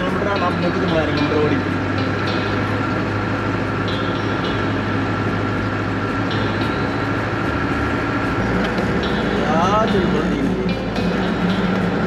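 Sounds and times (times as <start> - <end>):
road travel noise: 0.0 - 12.0
vehicle engine hum: 0.0 - 12.0.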